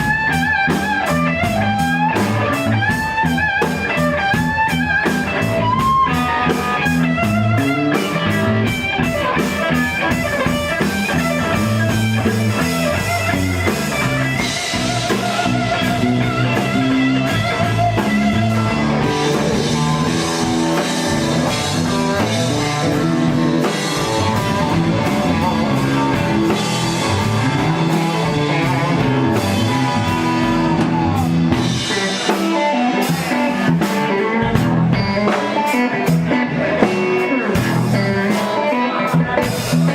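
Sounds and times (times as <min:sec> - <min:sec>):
blues rock band playing: 0:00.0 - 0:39.9
electric guitar solo: 0:00.0 - 0:39.9.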